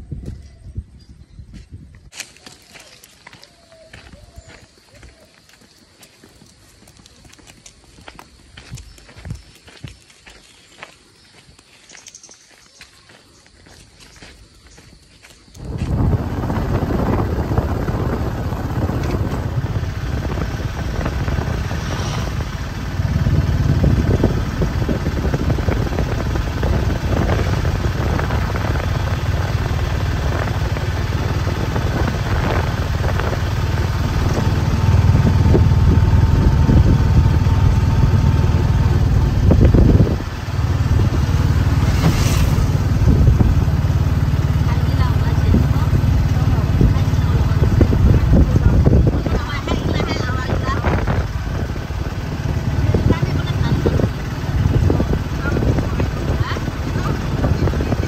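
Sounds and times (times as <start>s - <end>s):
vehicle engine rumble: 0.0s - 58.0s
road noise: 2.1s - 58.0s.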